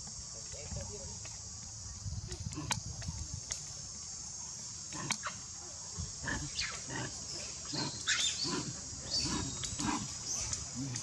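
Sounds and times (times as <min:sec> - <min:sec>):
high insect buzz: 0:00.0 - 0:11.0.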